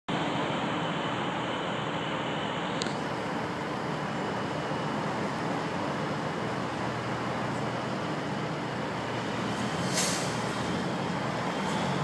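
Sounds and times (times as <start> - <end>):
diesel truck engine running: 0.1 - 12.0
street noise: 0.1 - 12.0.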